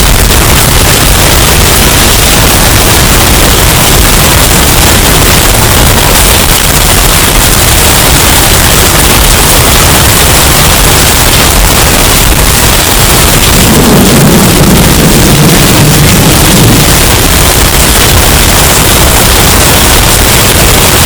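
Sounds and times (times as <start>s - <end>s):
distorted hurricane wind: 0.0s - 21.0s.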